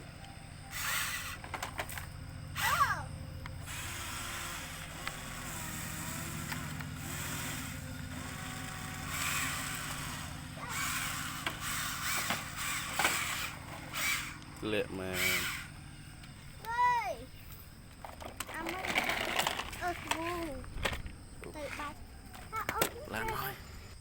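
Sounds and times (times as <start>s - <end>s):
machine engine running: 0.0s - 16.6s, 17.3s - 22.5s.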